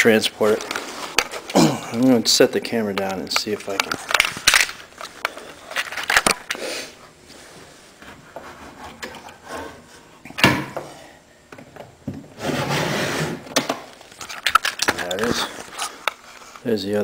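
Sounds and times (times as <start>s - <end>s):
knocks and handling noises: 0.0s - 6.6s, 7.4s - 16.6s.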